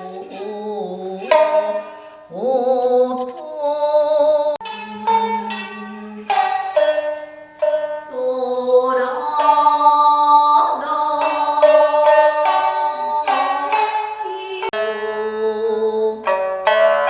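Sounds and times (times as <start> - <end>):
shamisen plucked notes: 0.0 - 17.0.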